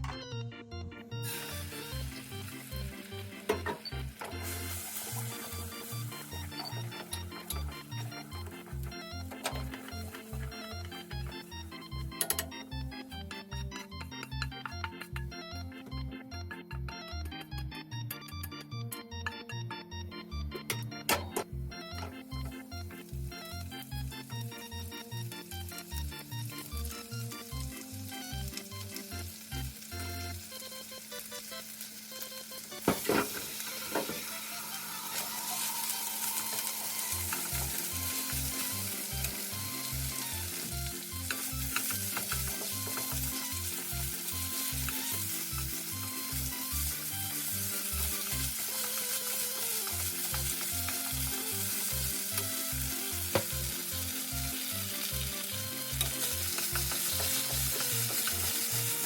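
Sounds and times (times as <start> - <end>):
background music with bass line: 0.0 - 30.5, 36.9 - 59.0
food sizzling in a pan: 1.2 - 12.2, 22.3 - 59.0.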